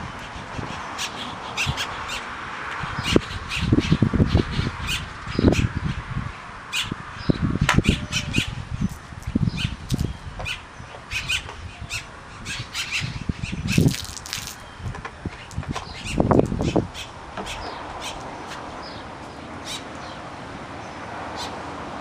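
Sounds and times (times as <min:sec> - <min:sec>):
birds squawking: 0:00.2 - 0:02.3, 0:02.9 - 0:06.0, 0:06.7 - 0:19.0, 0:19.6 - 0:20.2, 0:21.3 - 0:21.6.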